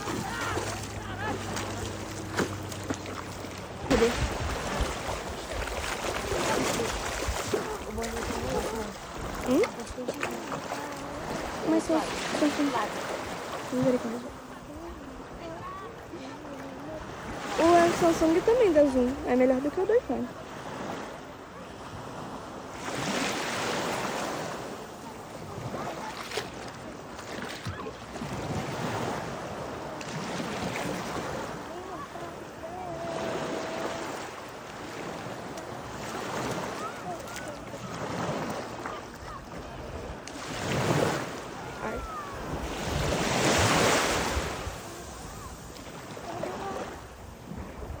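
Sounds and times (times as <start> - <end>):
sea surf washing: 0.0 - 48.0.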